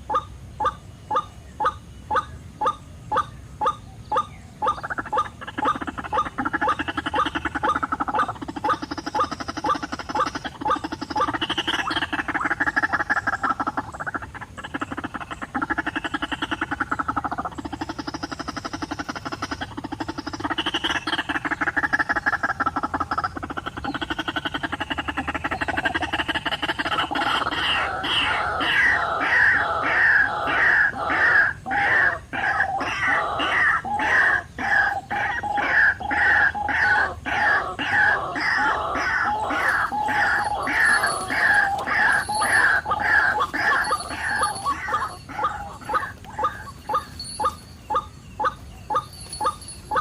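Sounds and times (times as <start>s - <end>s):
waterhen croaking calls: 0.0s - 50.0s.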